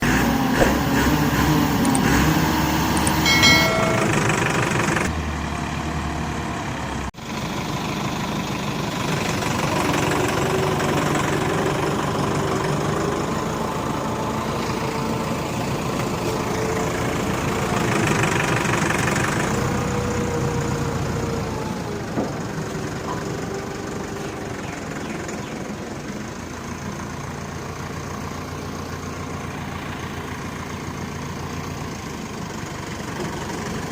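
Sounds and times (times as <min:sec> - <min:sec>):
tractor diesel engine straining: 0:00.0 - 0:33.9.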